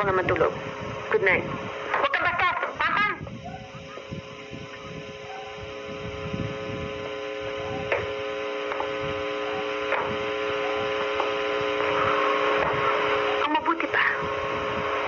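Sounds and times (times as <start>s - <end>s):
droning hum of held tones: 0.0s - 15.0s.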